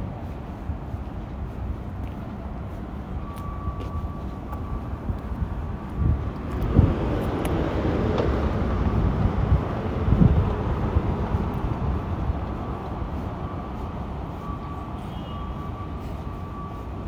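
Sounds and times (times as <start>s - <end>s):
rush of street traffic: 0.0s - 17.0s.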